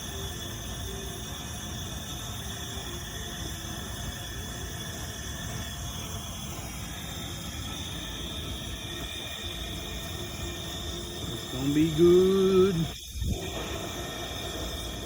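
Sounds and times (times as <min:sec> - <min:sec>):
gas burner low rumbling: 0:00.0 - 0:15.0.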